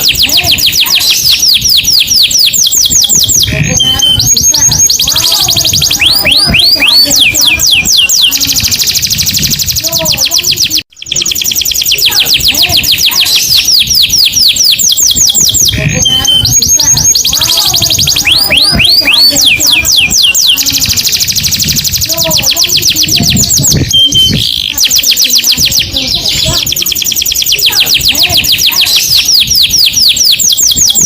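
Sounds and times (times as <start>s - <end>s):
canary singing trills: 0.0s - 31.0s.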